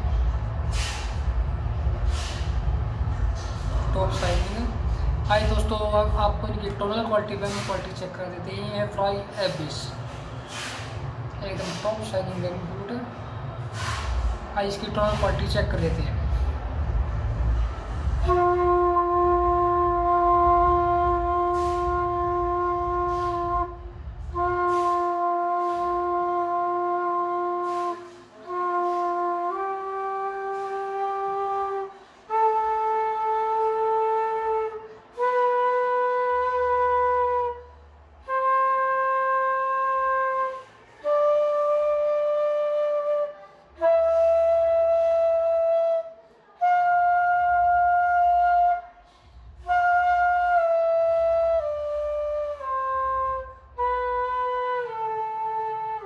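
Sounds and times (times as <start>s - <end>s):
bamboo flute held notes: 0.0s - 8.0s, 9.9s - 12.0s, 12.6s - 15.4s, 16.1s - 56.0s.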